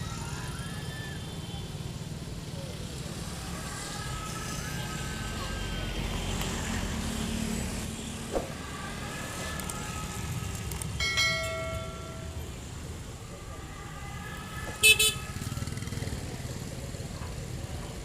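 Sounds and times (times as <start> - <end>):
faint distant voices: 0.0 - 18.0
road traffic rumble: 0.0 - 18.0.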